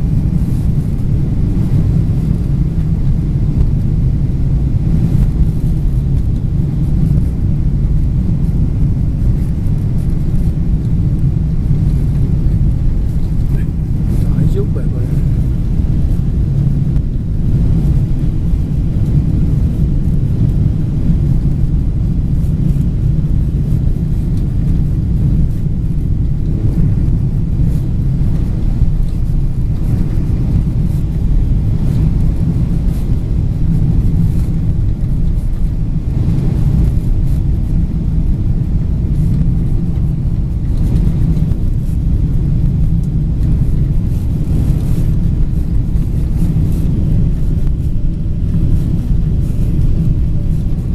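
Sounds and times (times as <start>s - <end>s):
airliner cabin engine drone: 0.0s - 50.9s.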